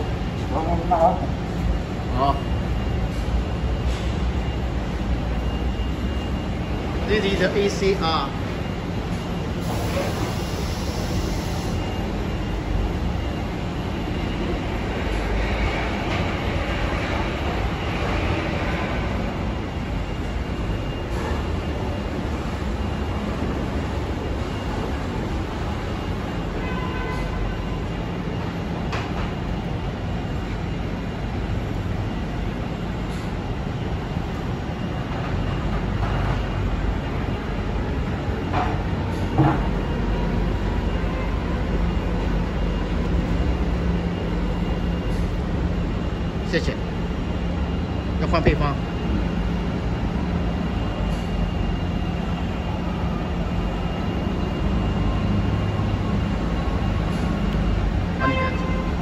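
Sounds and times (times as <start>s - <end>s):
industrial machinery running: 0.0s - 59.0s.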